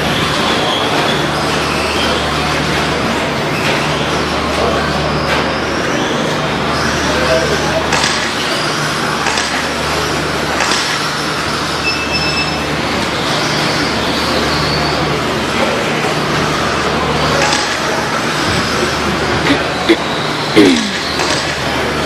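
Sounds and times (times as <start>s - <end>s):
rc truck motor whine: 0.0s - 22.0s.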